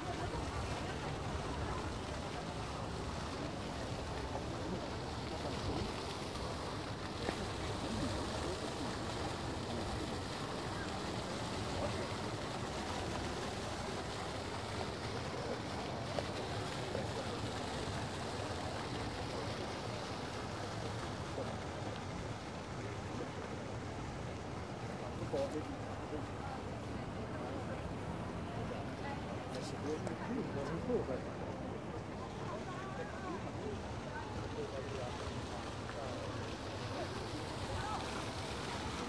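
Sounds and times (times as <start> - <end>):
faint distant voices: 0.0 - 39.0
fountain water splashing: 0.0 - 39.0.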